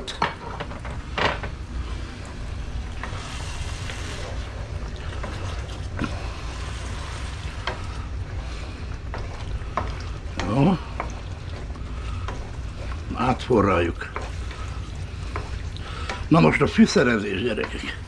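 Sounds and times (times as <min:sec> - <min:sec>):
wine sizzling and bubbling: 0:00.0 - 0:18.0.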